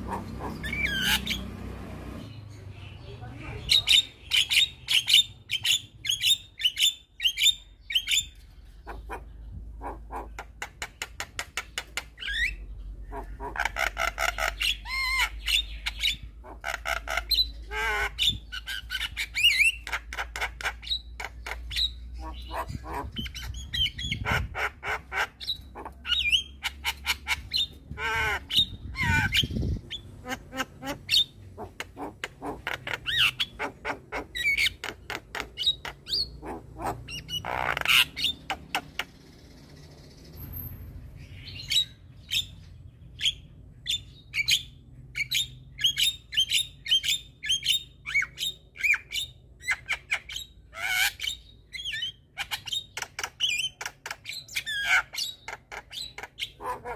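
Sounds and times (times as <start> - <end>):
myna bird chattering and whistling: 0.0 - 1.5, 2.2 - 56.9.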